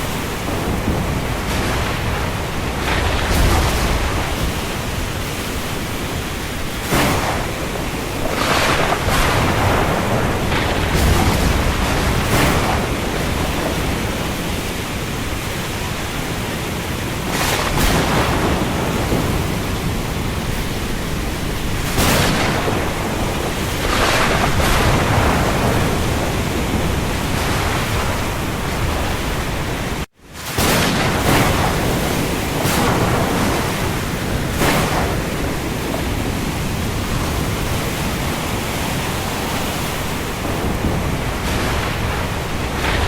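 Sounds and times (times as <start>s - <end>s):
heavy rain on sea: 0.0s - 43.0s
waves breaking: 0.0s - 43.0s.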